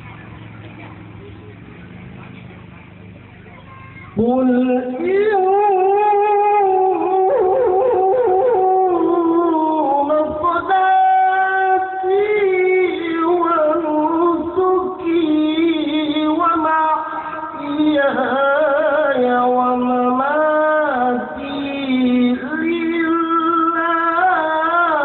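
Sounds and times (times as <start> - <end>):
man reciting melodically: 4.1 - 25.0.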